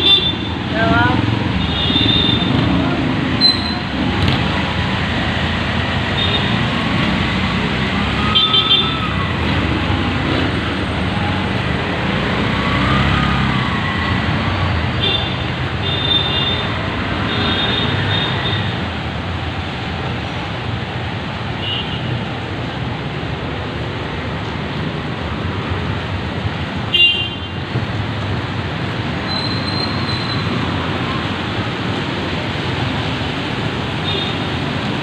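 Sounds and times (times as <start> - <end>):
traffic on a wet road: 0.0 - 35.0.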